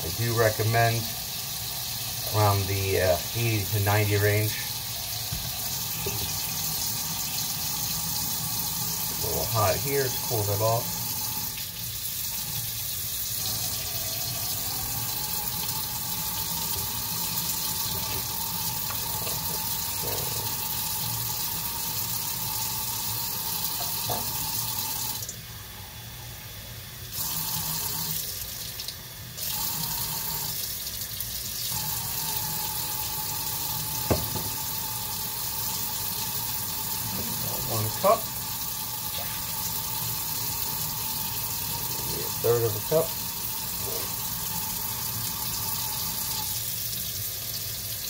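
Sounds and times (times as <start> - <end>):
faucet running into sink: 0.0 - 25.4, 27.1 - 48.0.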